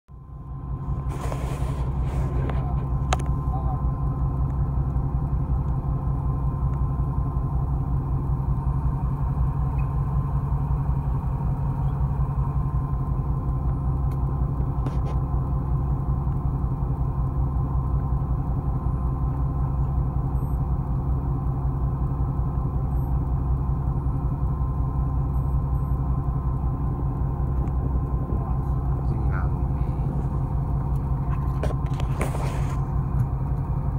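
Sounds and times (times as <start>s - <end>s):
boat engine droning: 0.1s - 33.9s.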